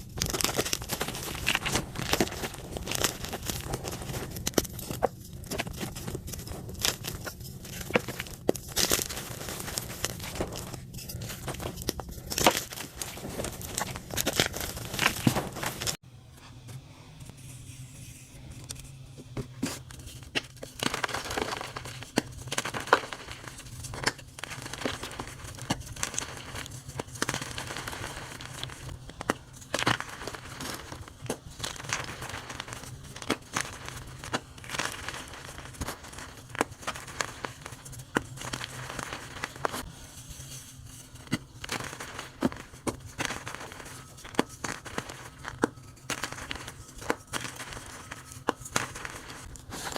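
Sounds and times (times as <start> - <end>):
chalk being crushed: 0.0 - 16.0, 19.6 - 49.9
low steady hum: 0.0 - 49.9.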